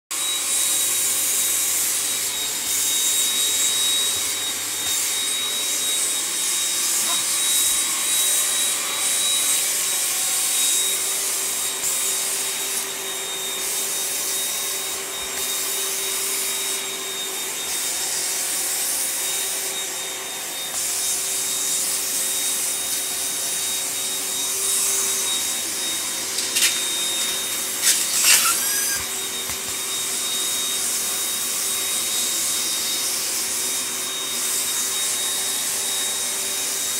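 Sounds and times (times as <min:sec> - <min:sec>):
vacuum cleaner running: 0:00.1 - 0:36.9.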